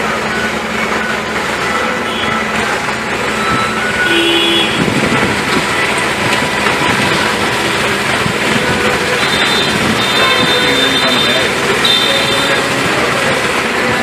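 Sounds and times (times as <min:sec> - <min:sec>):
heavy machinery engines running: 0:00.0 - 0:14.0
brief tonal notes: 0:01.0 - 0:12.7.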